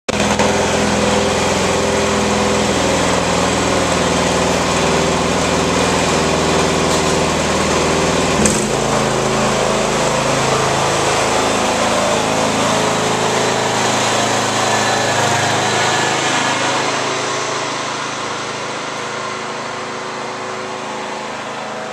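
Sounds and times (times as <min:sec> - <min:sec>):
lawn mower engines running: 0:00.1 - 0:21.9.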